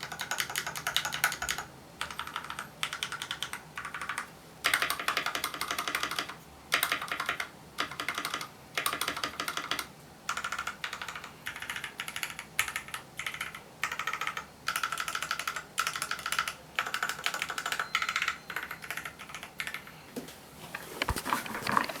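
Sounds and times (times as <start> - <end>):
fast typing on mechanical keyboard: 0.0 - 19.9.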